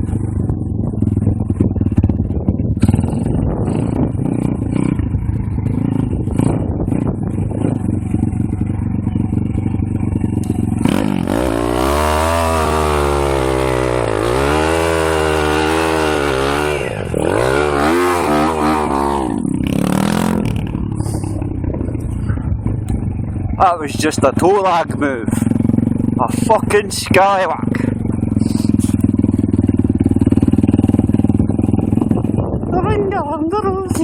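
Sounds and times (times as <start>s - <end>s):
pit bike engine revving: 0.0s - 34.0s.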